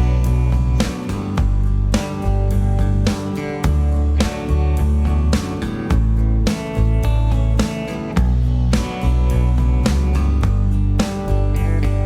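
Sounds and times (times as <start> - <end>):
guitar and bass music: 0.0 - 12.0.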